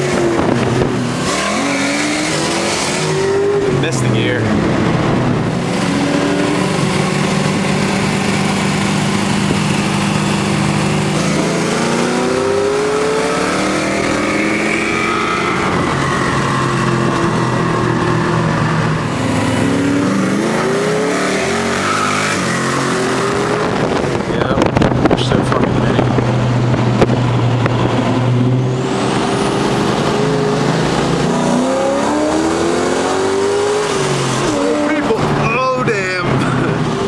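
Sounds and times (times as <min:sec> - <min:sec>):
car engines droning: 0:00.0 - 0:37.0.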